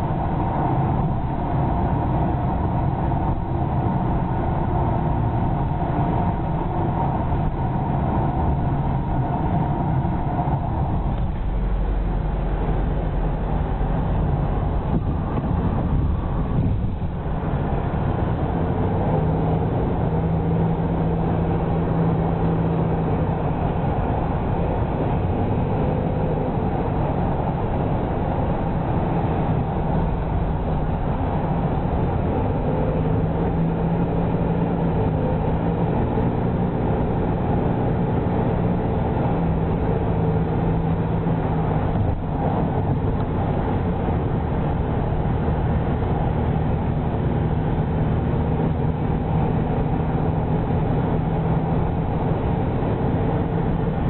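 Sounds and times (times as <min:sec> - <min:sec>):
car road noise: 0:00.0 - 0:54.0.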